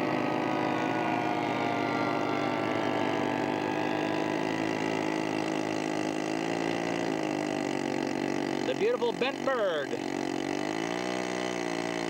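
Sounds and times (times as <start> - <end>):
airplane engine buzzing: 0.0 - 12.0.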